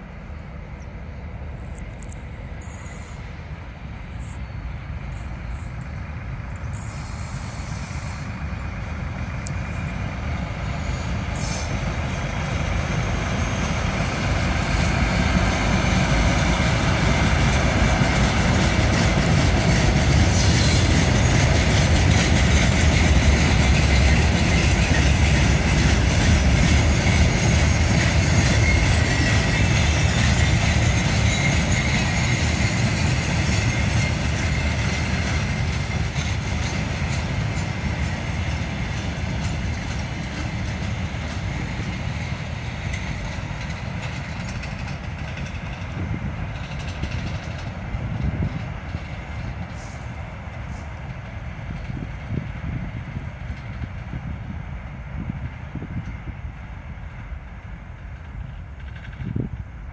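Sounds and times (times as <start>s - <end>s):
diesel locomotive running: 0.0s - 59.9s.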